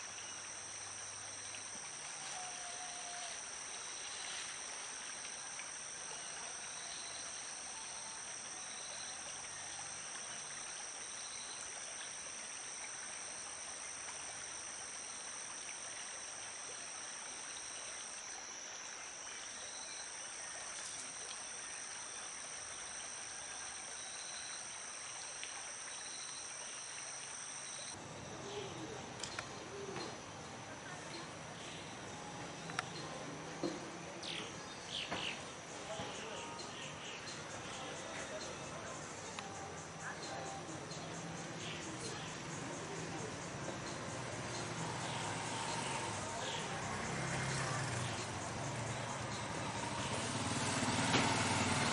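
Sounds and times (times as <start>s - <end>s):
shrill insect chorus: 0.0s - 51.9s.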